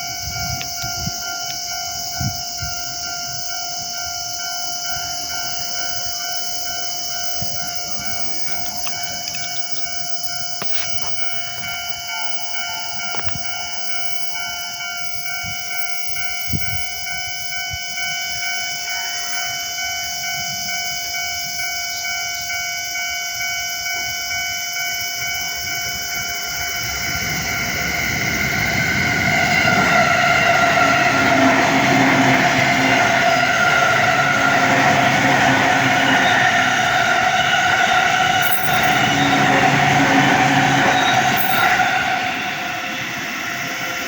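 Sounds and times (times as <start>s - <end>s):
level crossing warning bell: 0.0s - 44.0s
train rumble: 0.0s - 44.0s.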